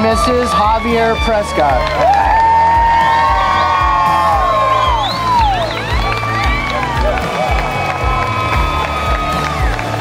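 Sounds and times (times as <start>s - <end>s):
crowd cheering and whooping: 0.0s - 10.0s.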